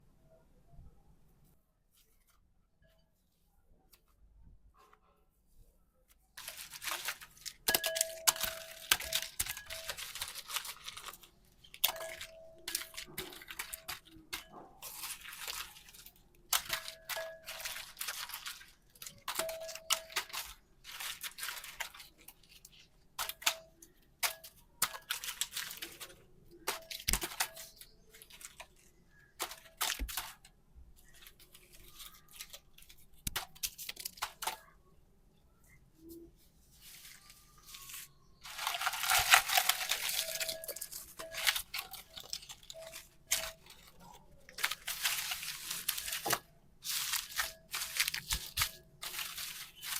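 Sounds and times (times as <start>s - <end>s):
packaging crinkling and tearing: 6.4s - 34.7s, 36.8s - 49.9s.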